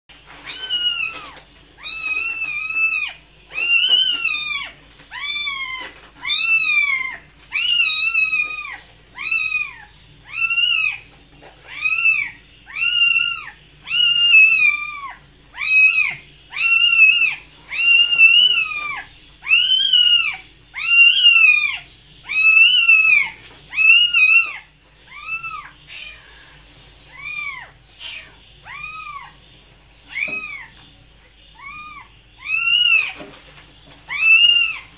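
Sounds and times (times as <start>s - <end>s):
cat meowing: 0.4s - 11.0s, 11.7s - 26.3s, 27.1s - 29.3s, 30.1s - 30.7s, 31.6s - 33.3s, 34.1s - 34.9s.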